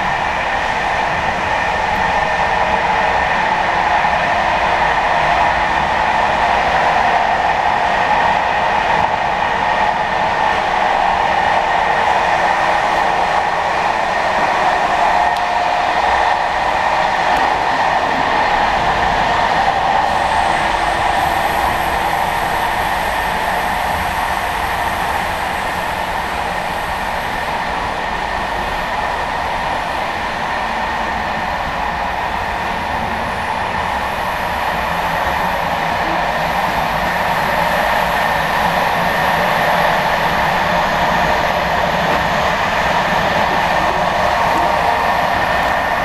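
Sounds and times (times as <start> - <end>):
train wheels on rail: 0.0 - 46.0.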